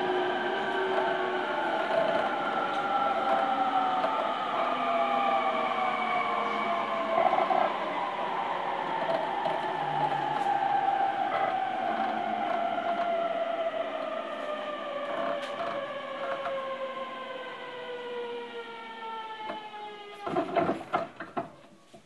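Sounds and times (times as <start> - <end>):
electric train motors whining: 0.0 - 21.8.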